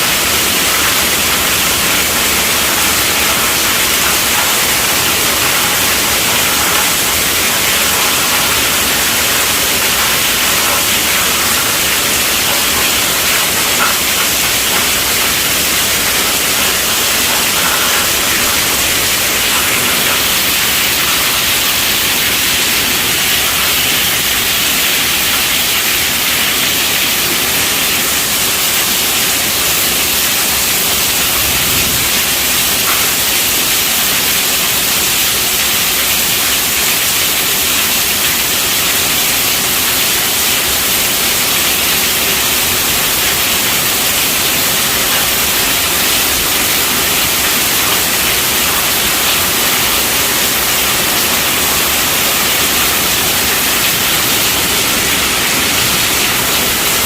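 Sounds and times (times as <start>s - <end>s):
heavy rain on a tent roof: 0.0s - 57.0s.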